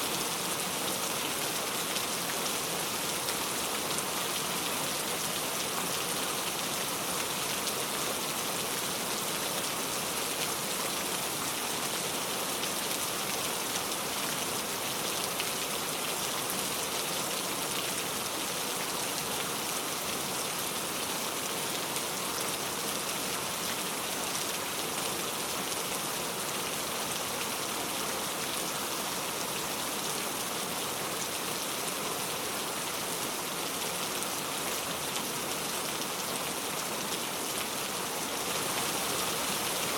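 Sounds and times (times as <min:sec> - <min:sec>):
heavy rain on a road: 0:00.1 - 0:39.9.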